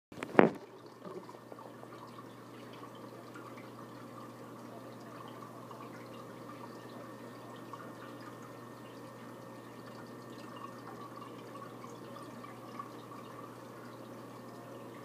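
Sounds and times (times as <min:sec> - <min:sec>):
water bubbling and trickling: 0:00.2 - 0:15.0
water dripping: 0:00.7 - 0:15.0.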